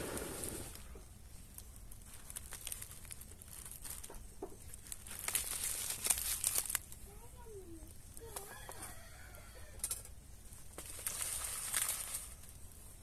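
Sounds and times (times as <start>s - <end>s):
tinder crackling as it burns: 0.0s - 13.0s.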